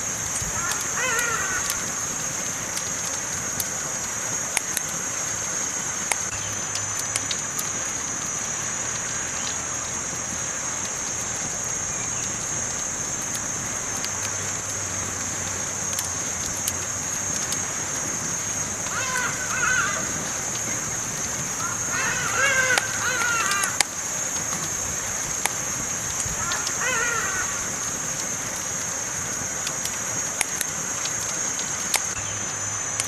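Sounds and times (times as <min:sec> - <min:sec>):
campfire crackling and popping: 0:00.0 - 0:33.0
high-pitched hiss: 0:00.0 - 0:33.0.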